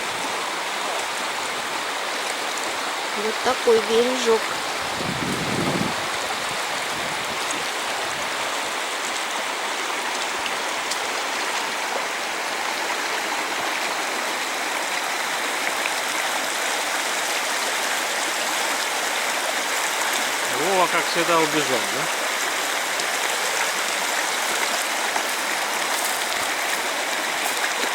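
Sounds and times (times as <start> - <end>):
river rushing over rocks: 0.0 - 27.9.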